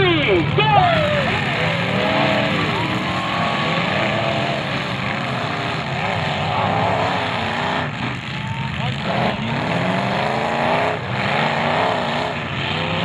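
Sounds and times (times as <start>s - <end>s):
many car engines revving: 0.0s - 13.0s.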